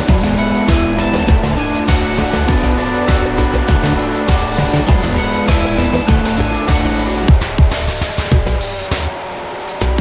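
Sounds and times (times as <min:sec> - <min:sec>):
electronic dance music: 0:00.0 - 0:09.1.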